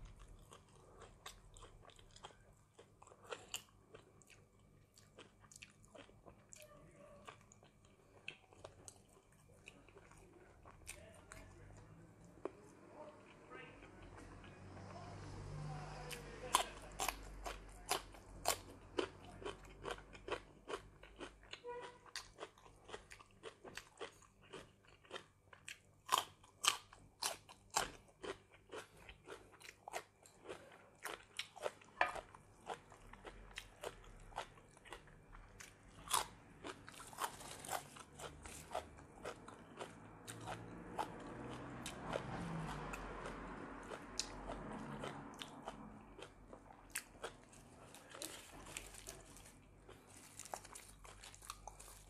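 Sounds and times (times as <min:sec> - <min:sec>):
chewing raw vegetables: 0:00.0 - 0:52.0.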